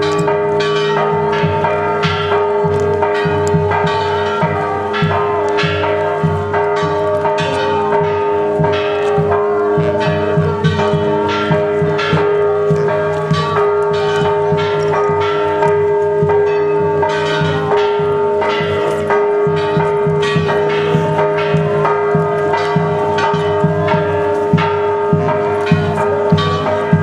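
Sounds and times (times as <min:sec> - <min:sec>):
church bells ringing: 0:00.0 - 0:27.0.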